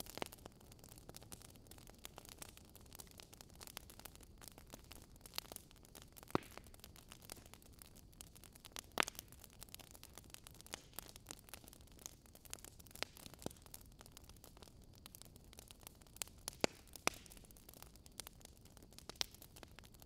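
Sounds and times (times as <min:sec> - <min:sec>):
soft steady hiss: 0:00.0 - 0:20.0
wood fire crackling and popping: 0:00.0 - 0:20.0.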